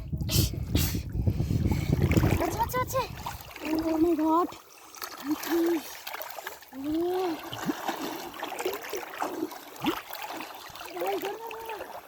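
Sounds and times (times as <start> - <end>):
water trickling: 1.0 - 12.0
water splashing in pond: 1.8 - 12.0.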